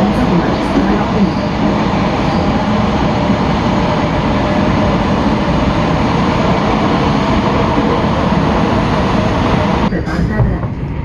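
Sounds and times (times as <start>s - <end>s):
metro train rail rumble: 0.0s - 11.0s.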